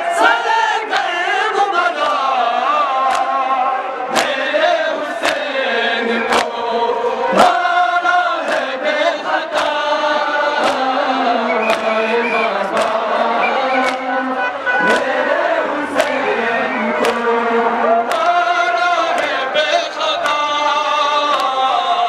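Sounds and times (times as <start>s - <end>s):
men chanting in unison: 0.0s - 22.0s.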